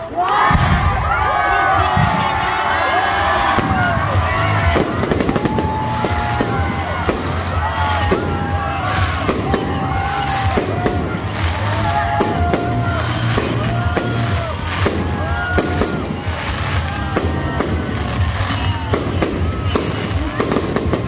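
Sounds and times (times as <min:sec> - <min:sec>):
fireworks bursting and crackling: 0:00.4 - 0:21.0
music playing: 0:01.6 - 0:21.0.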